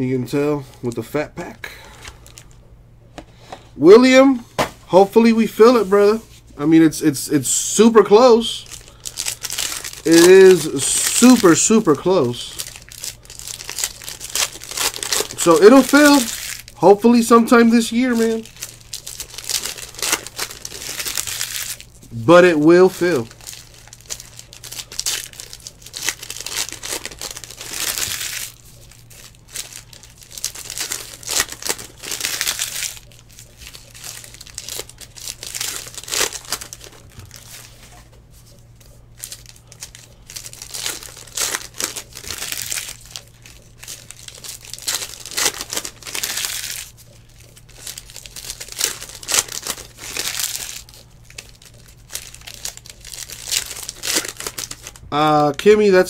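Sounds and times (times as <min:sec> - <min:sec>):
plastic wrappers crinkling: 0:00.7 - 0:02.6, 0:05.0 - 0:56.0.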